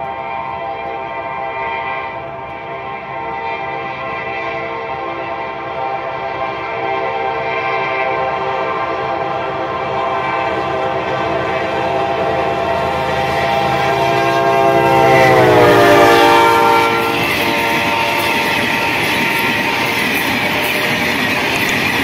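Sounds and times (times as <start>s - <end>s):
locomotive air horn blast: 0.0s - 19.9s
train rumble and wheel clatter: 0.0s - 22.0s.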